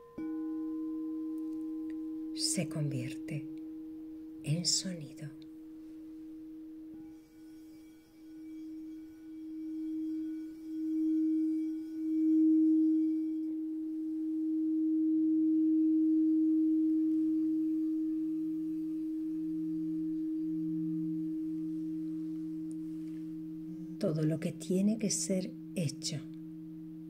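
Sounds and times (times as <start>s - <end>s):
lower singing bowl tone pulsing: 0.0s - 27.0s
singing bowl ringing: 0.0s - 27.0s.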